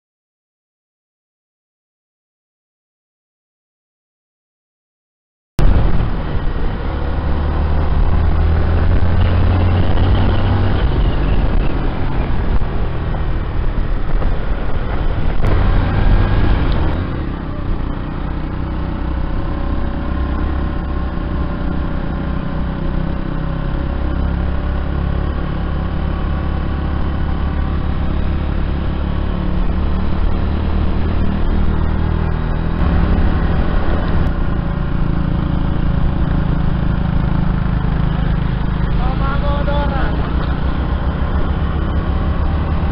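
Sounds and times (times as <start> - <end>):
wind rushing over microphone: 5.6 - 24.8, 26.0 - 42.9
motorcycle engine running: 5.6 - 42.9.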